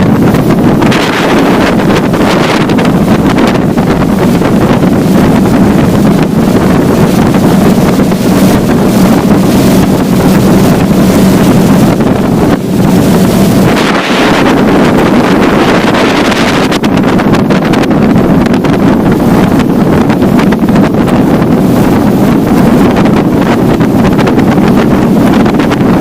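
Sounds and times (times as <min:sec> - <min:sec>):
motorboat engine running: 0:00.0 - 0:26.0
wind buffeting microphone: 0:00.0 - 0:26.0.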